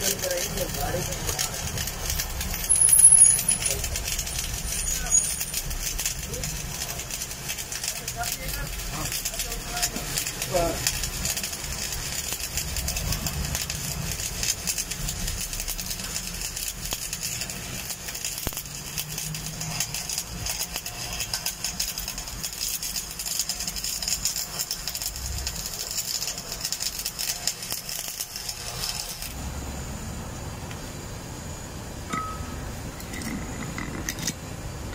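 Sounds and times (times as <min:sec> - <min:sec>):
electric arc welding crackle: 0:00.0 - 0:31.2.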